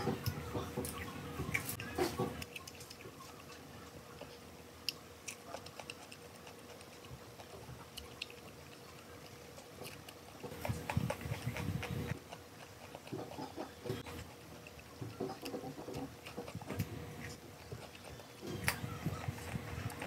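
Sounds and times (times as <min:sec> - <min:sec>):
chewing raw vegetables: 0:00.0 - 0:20.0.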